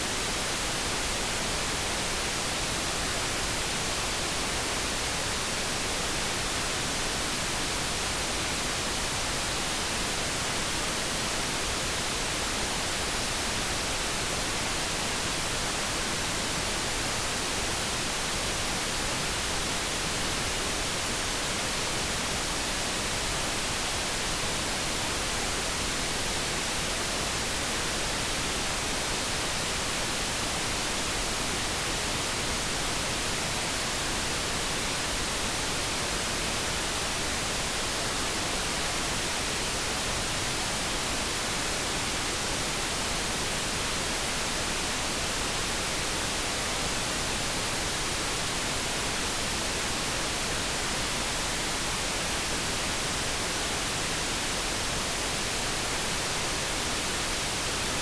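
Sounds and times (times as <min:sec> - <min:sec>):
steady synthesized hiss: 0:00.0 - 0:58.0.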